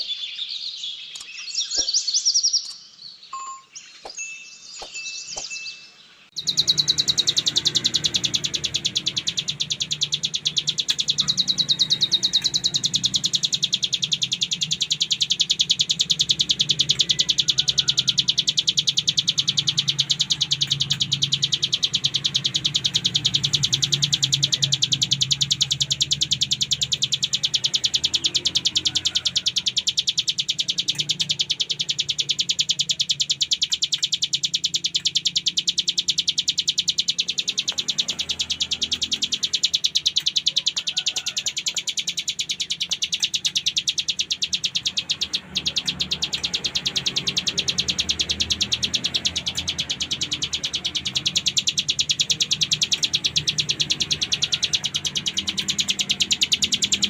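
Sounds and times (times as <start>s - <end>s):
bird trilling: 0.0s - 57.0s.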